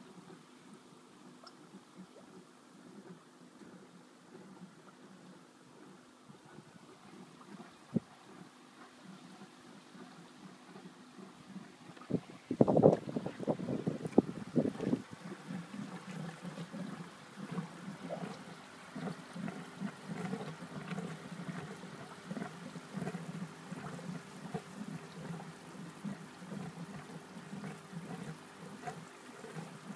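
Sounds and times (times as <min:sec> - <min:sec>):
water gurgling in a pipe: 0:00.0 - 0:29.9.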